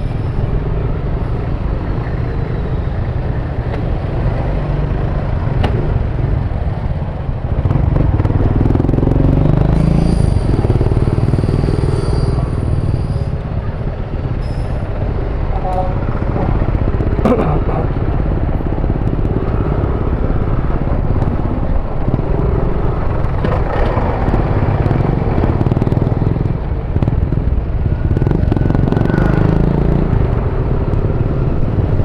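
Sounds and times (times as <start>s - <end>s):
scooter engine and road noise: 0.0s - 32.0s
wind rumbling on microphone: 0.0s - 32.0s.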